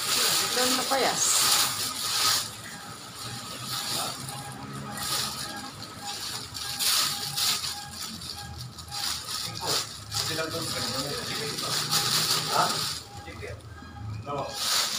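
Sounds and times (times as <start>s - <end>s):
leaves rustling against plastic: 0.0s - 13.5s, 14.4s - 14.9s
plastic bag rustling: 0.0s - 13.5s, 14.5s - 14.9s.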